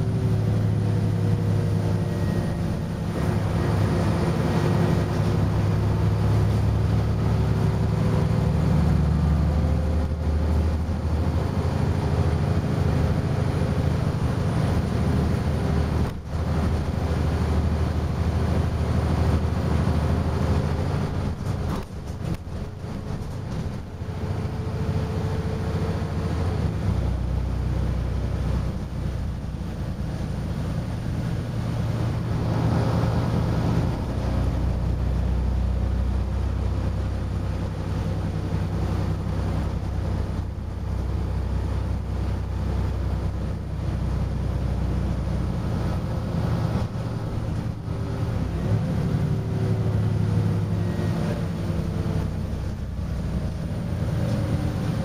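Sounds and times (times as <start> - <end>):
bus diesel engine drone: 0.0 - 55.0
road noise: 0.0 - 55.0.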